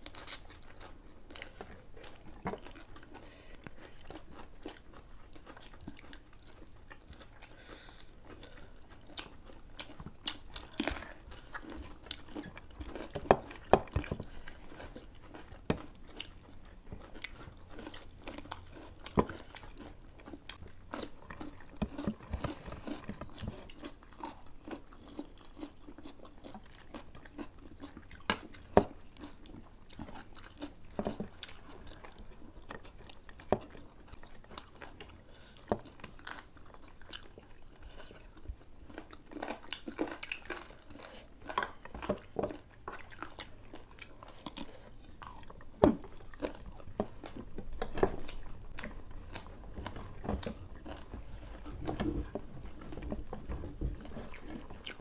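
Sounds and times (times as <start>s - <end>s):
people chewing and crunching food: 0.0s - 55.0s.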